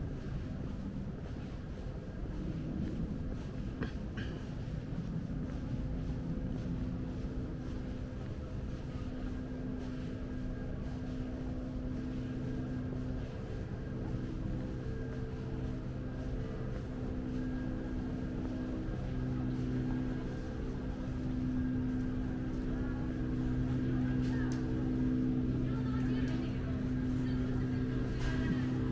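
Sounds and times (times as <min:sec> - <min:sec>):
low rumble: 0:00.0 - 0:28.9.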